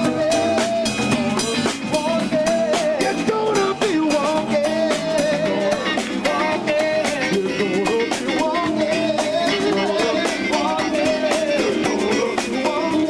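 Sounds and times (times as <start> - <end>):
bending lead melody: 0.0 - 13.0
drum kit beat: 0.0 - 13.0
guitar: 0.0 - 13.0.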